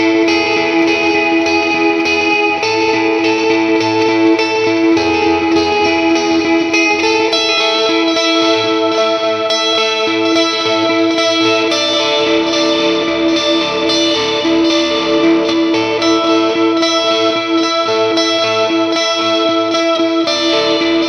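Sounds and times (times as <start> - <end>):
electric guitar with overdrive: 0.0 - 21.0.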